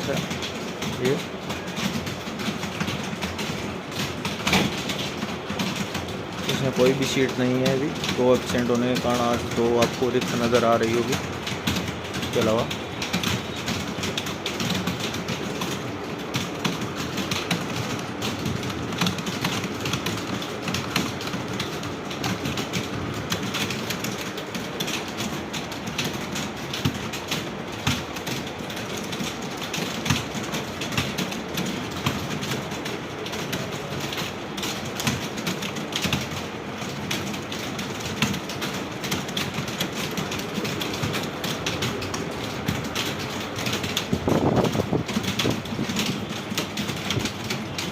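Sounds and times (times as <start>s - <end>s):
clatter of keyboard typing: 0.0s - 47.9s.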